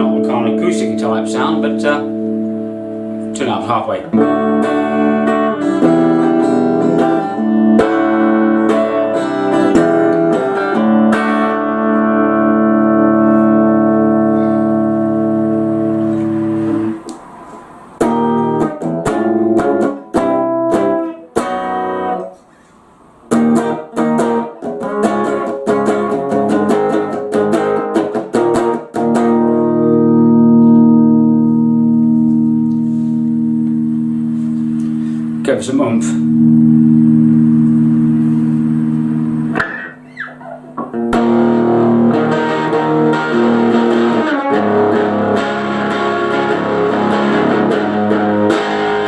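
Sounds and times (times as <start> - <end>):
electric guitar notes and chords: 0.0 - 22.5, 23.1 - 49.0.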